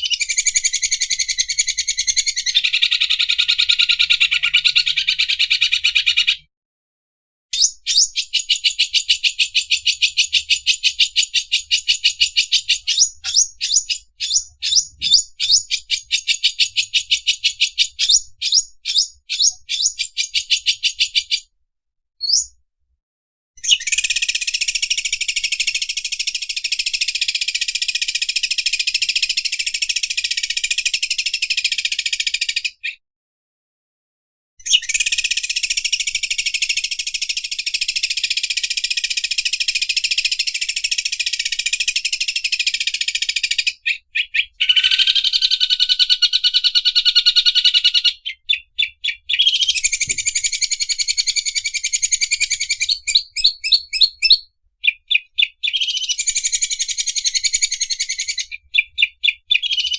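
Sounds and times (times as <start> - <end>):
bird chirping: 0.0 - 6.5, 7.5 - 21.6, 22.2 - 22.6, 23.6 - 33.0, 34.6 - 59.9.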